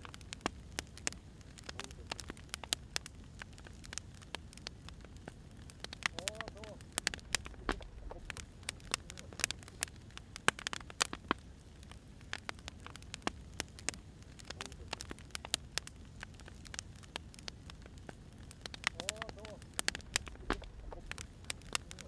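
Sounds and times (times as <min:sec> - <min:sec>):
firewood crackling: 0:00.0 - 0:22.0
low steady hiss: 0:00.0 - 0:22.0.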